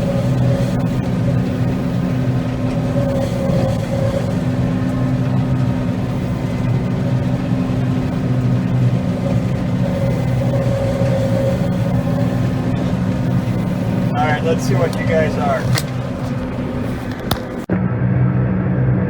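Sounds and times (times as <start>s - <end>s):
faint high whine: 0.0s - 17.7s
combine harvester engine drone: 0.0s - 19.0s.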